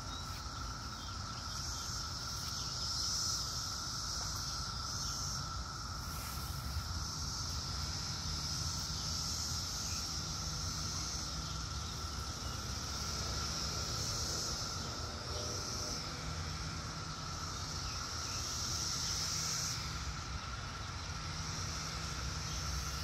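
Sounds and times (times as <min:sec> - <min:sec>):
cicadas droning: 0:00.0 - 0:23.0
low steady whine: 0:00.0 - 0:23.0.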